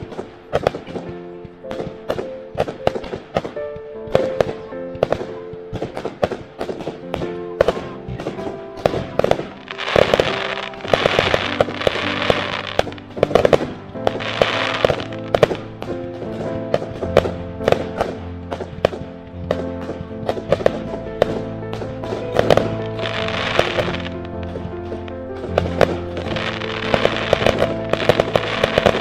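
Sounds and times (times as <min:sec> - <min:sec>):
background music: 0:00.0 - 0:29.0
fireworks bursting with sharp bangs: 0:00.0 - 0:29.0
fireworks crackling: 0:00.0 - 0:29.0.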